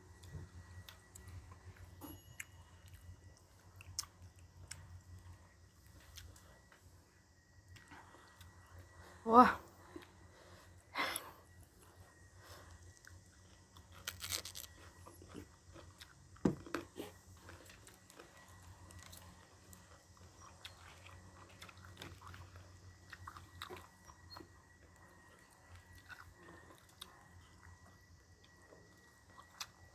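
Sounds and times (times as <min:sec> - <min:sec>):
person chewing and crunching food: 0:00.0 - 0:29.9.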